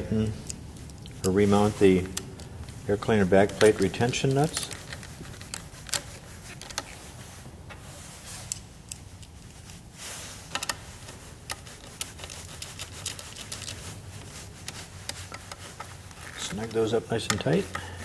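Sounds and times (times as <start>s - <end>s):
small nuts threaded onto studs: 0.0s - 7.0s, 8.4s - 9.8s, 10.5s - 18.0s.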